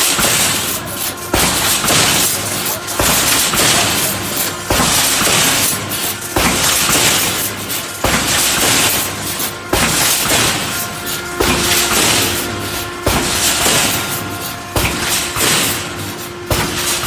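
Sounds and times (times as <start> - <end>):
loud welding crackle: 0.0 - 17.0
welding machine strokes: 0.0 - 17.0.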